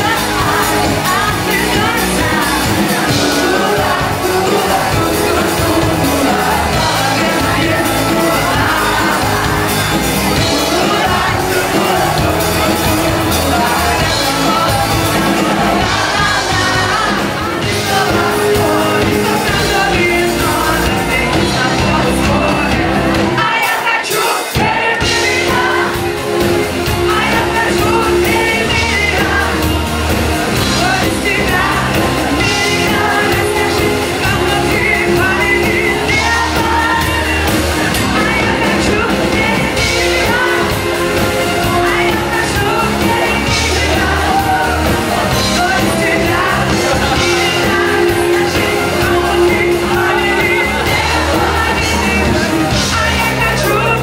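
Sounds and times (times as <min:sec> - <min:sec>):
crowd shouting along: 0:00.0 - 0:54.0
live rock band playing: 0:00.0 - 0:54.0
woman singing: 0:00.0 - 0:54.0.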